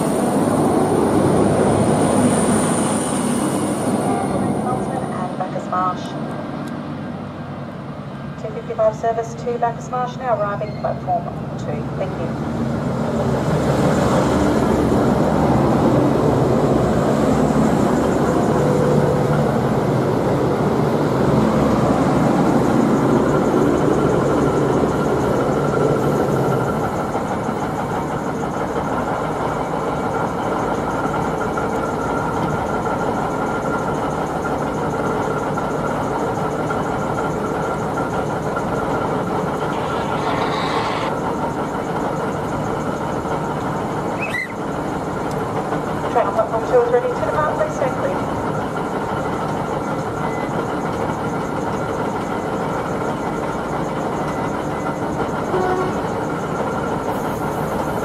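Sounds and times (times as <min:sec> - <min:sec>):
diesel train engines running: 0:00.0 - 0:58.0.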